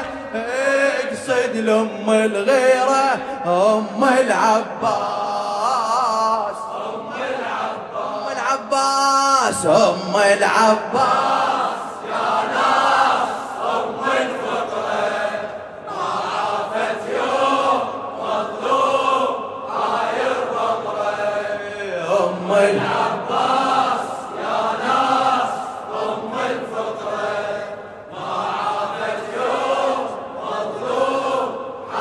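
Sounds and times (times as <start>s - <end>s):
male voices chanting in chorus: 0.0s - 32.0s.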